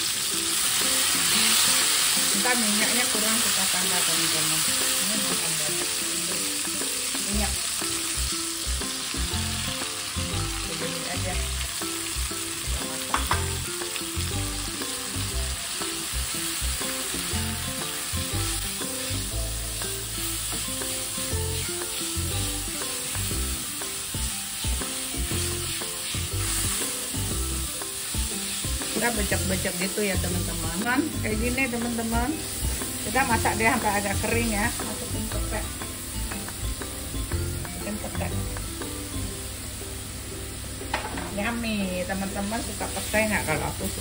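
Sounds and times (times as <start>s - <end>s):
food sizzling in hot oil: 0.0s - 44.0s.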